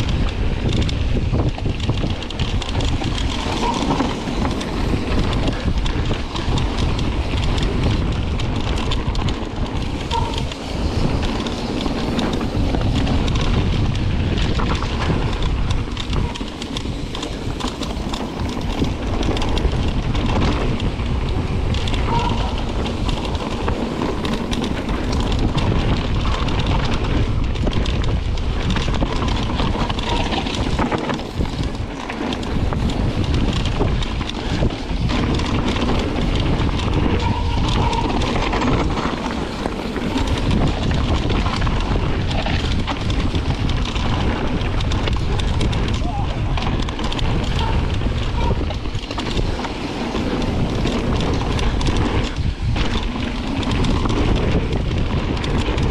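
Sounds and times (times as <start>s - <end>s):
tyres rumbling on trail: 0.0s - 55.9s
wind buffeting microphone: 0.0s - 55.9s.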